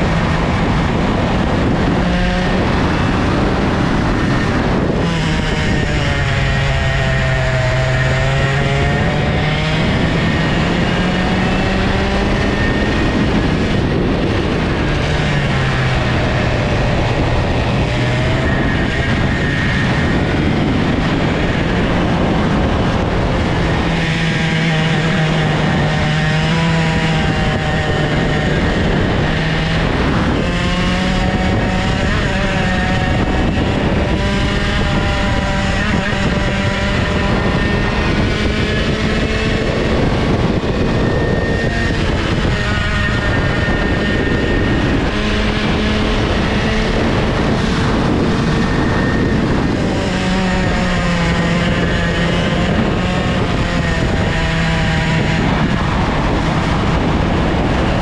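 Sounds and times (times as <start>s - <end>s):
kart engine revving: 0.0s - 58.0s
wind and tyre noise: 0.0s - 58.0s.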